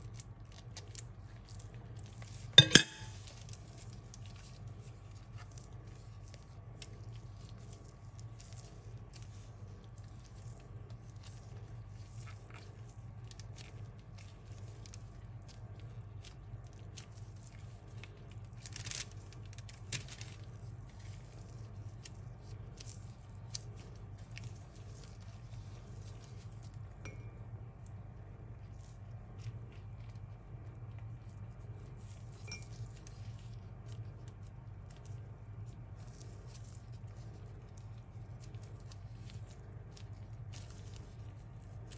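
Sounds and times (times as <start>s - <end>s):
gloved hands folding wrapper: 0.0s - 27.0s, 27.7s - 41.9s
steady low hum: 0.0s - 41.9s.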